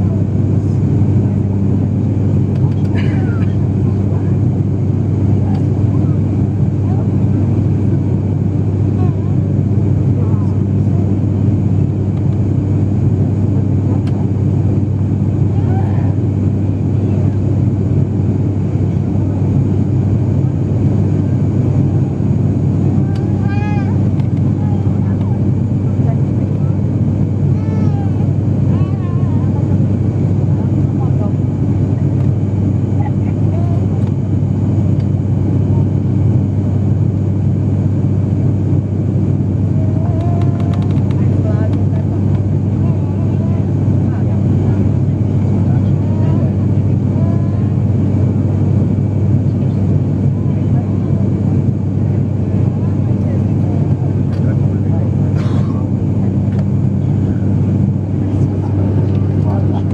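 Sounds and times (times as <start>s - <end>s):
turboprop cabin drone: 0.0s - 59.9s.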